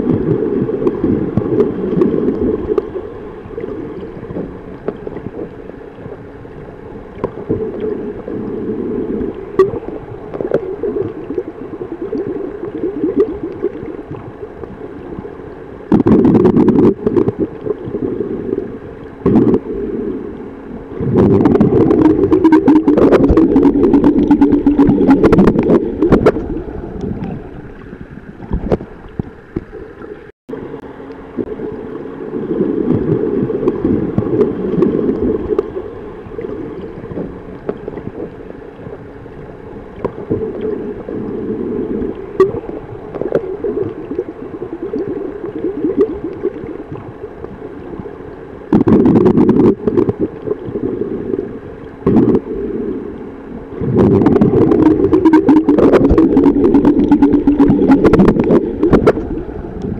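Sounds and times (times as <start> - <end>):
low steady hum: 0.0 - 59.9
underwater gurgling and rumbling: 0.0 - 59.9.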